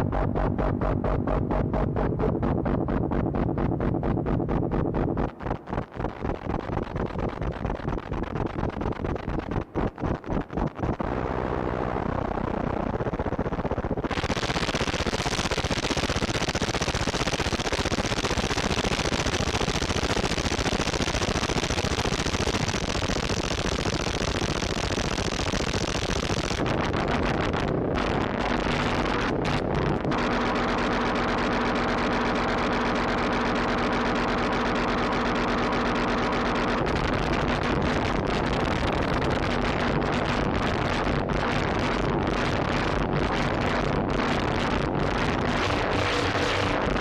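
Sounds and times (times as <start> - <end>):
synthesizer noise drone: 0.0 - 47.0.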